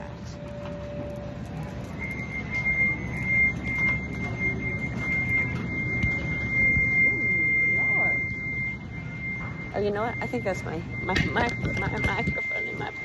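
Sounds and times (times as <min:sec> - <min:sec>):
high-pitched microphone whistle: 0:00.0 - 0:13.0
low hum of a large store: 0:00.0 - 0:13.0.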